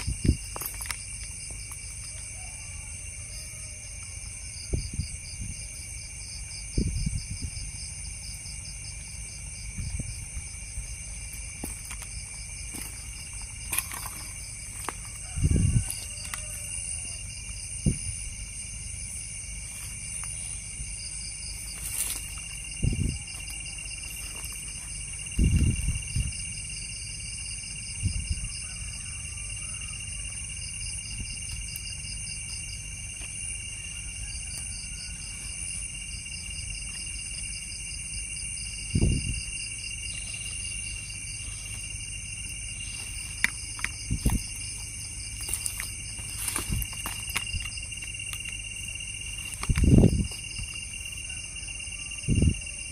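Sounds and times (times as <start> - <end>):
insect chorus trilling: 0.0 - 52.9.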